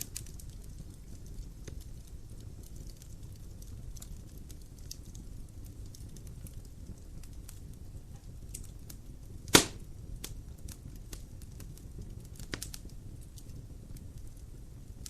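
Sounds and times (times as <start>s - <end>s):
firewood burning and crackling: 0.0s - 15.0s.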